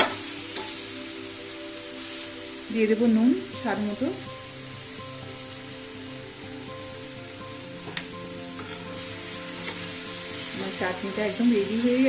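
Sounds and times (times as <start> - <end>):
chutney sizzling in a frying pan: 0.0 - 12.0.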